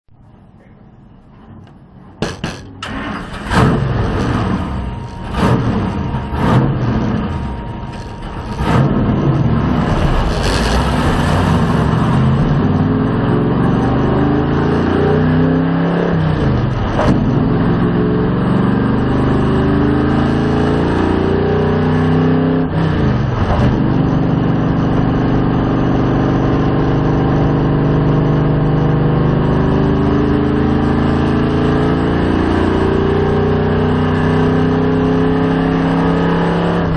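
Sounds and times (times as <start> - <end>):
race car engine accelerating: 1.3 - 36.9.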